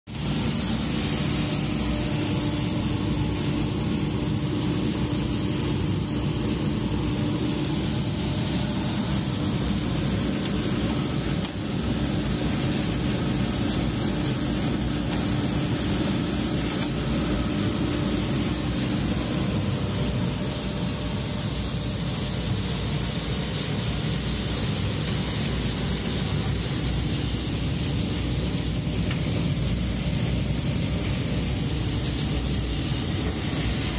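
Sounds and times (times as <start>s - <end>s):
faint machine hum: 0.1s - 33.9s
seed cleaner machine running: 0.1s - 33.9s.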